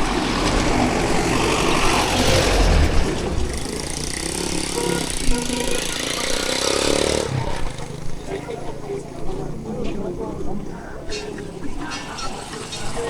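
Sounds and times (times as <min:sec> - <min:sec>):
cars and motorcycles passing: 0:00.0 - 0:13.0.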